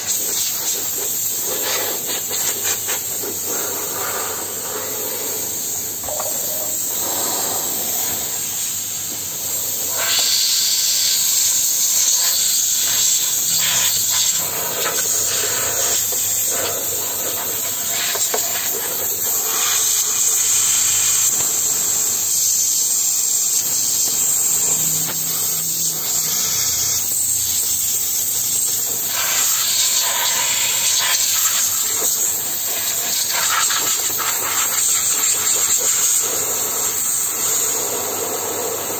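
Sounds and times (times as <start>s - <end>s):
steam cleaner hissing: 0.0s - 38.9s.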